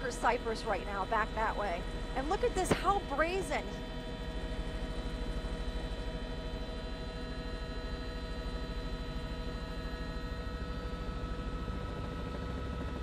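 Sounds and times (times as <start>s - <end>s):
helicopter cabin drone: 0.0s - 13.0s.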